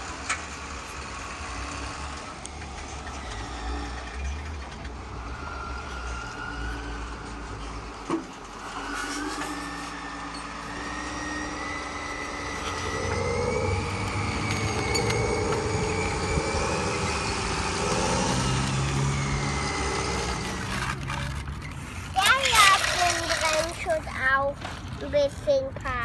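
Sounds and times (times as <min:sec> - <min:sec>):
high whine: 0:00.0 - 0:23.9
heavy vehicle engine running: 0:00.0 - 0:26.0.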